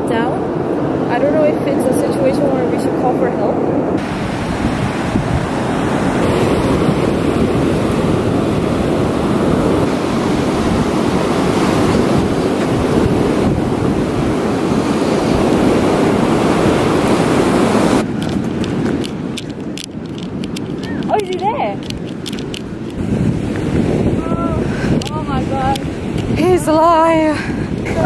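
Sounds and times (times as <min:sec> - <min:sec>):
sea surf breaking on beach: 0:00.0 - 0:28.0
wind buffeting microphone: 0:00.0 - 0:28.0.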